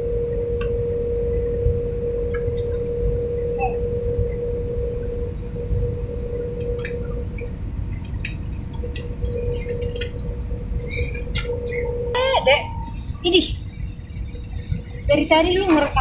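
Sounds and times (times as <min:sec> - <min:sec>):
droning hum: 0:00.0 - 0:16.0
engine and airflow rumble: 0:00.0 - 0:16.0.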